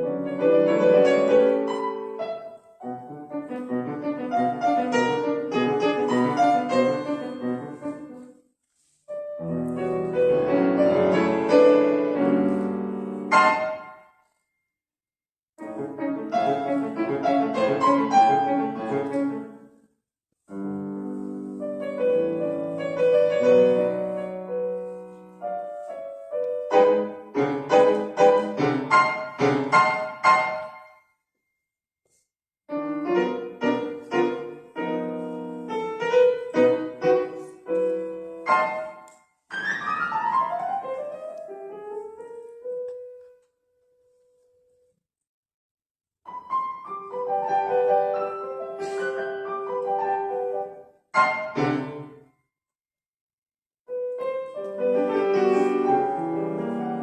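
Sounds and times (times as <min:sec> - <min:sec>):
solo piano classical piece: 0:00.0 - 0:14.4, 0:15.6 - 0:31.0, 0:32.7 - 0:45.0, 0:46.2 - 0:52.3, 0:53.9 - 0:57.0.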